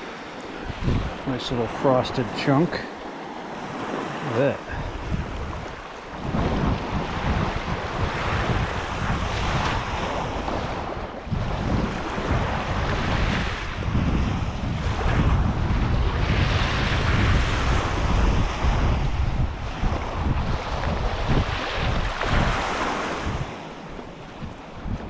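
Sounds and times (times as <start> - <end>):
waves washing onto shore: 0.0 - 25.0
wind buffeting microphone: 0.0 - 25.0.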